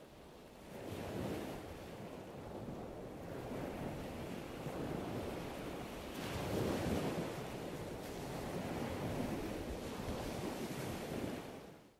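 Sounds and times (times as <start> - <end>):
waves breaking on a beach: 0.0 - 11.9.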